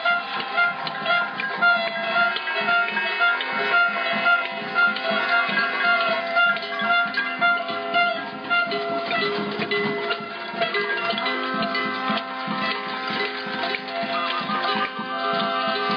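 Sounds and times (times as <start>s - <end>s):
plucked guitar notes: 0.0s - 15.9s.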